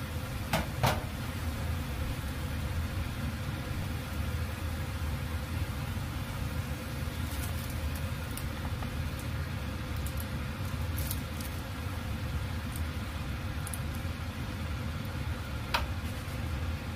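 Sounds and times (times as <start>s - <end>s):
kitchen background rumble: 0.0s - 16.9s.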